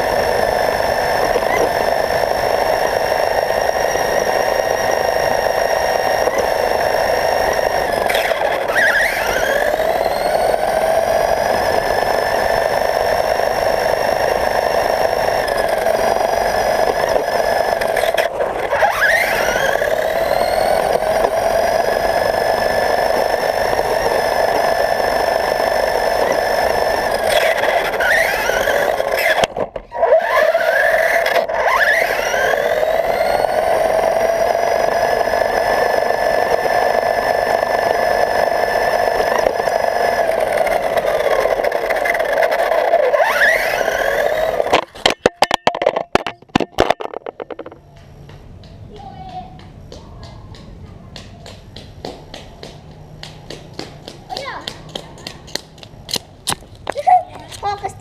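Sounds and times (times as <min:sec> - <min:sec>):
toy car motor whining: 0:00.0 - 0:47.8.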